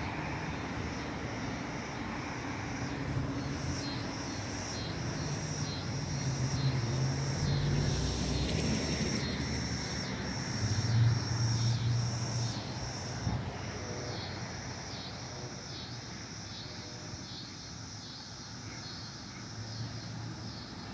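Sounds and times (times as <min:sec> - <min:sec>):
insects chirping: 0:00.0 - 0:20.9.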